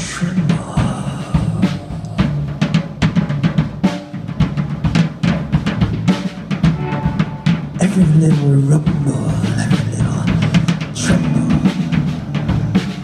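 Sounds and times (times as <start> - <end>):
bass line: 0.0 - 13.0
drum kit playing: 0.0 - 13.0
live band playing: 0.0 - 13.0.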